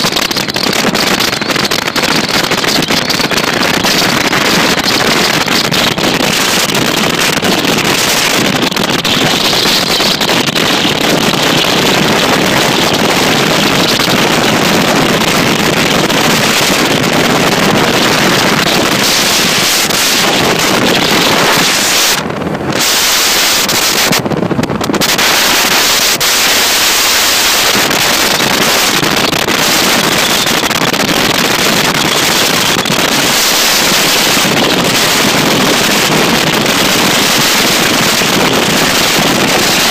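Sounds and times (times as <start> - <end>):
outboard engine running: 0.0 - 39.9
wind blast on microphone: 0.0 - 39.9.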